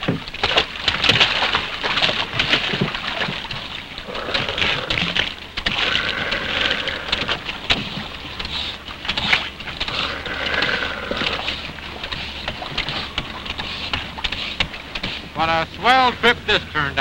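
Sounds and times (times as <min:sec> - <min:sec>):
water splashing from hose: 0:00.0 - 0:17.0.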